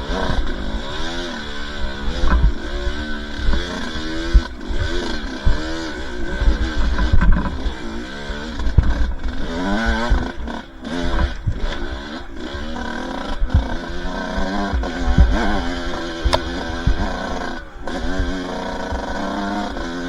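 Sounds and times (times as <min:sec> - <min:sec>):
bike knocking and clattering: 0:00.0 - 0:20.0
dirt bike engine revving: 0:00.0 - 0:20.0.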